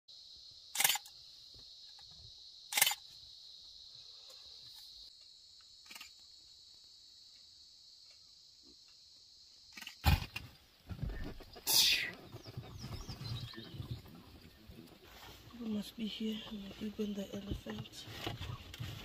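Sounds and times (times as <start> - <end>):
insects buzzing: 0.1 - 19.0.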